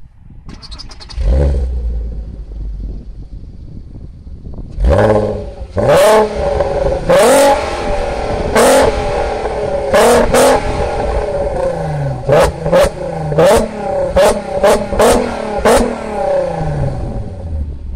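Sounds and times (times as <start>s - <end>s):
car engine revving: 0.5s - 17.9s.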